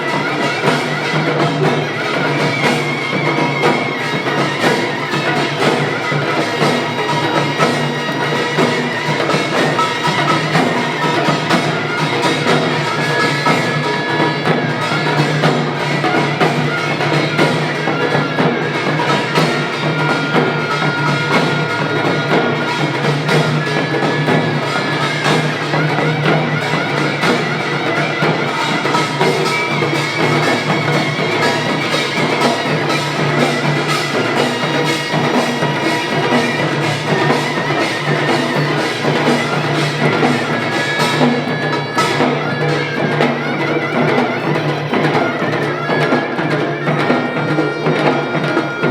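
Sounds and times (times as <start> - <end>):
percussion ensemble drumming: 0.0 - 48.9.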